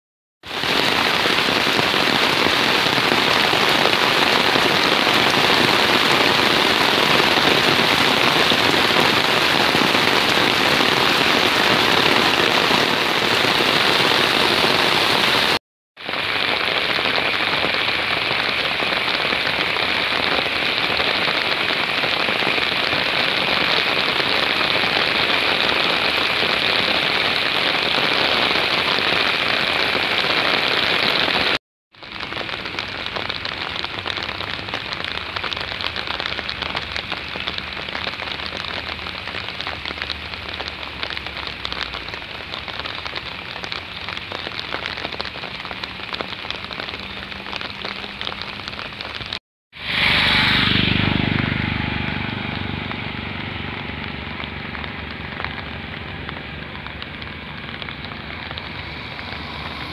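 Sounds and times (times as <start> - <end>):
heavy rain on ground and foliage: 0.4 - 59.9.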